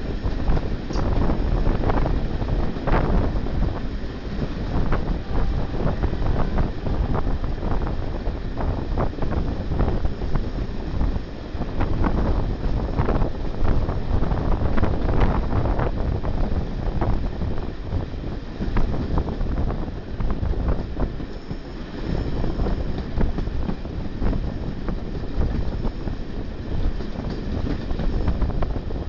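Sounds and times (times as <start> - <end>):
train coach rumbling on track: 0.0 - 29.0
wind buffeting microphone: 0.0 - 29.0.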